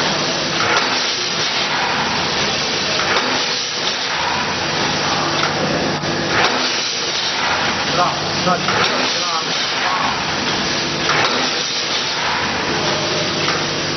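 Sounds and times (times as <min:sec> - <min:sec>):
machinery hissing: 0:00.0 - 0:13.9.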